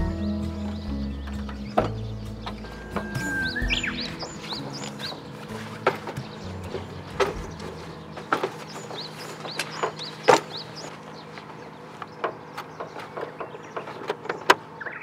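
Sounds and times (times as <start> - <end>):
steady low hum: 0.0 - 14.0
birds chirping: 0.0 - 15.0.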